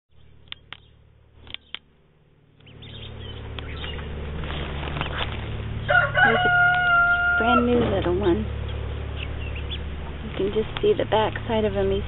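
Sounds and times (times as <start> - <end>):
ducklings peeping: 0.1 - 12.0
steady background noise: 0.2 - 12.0.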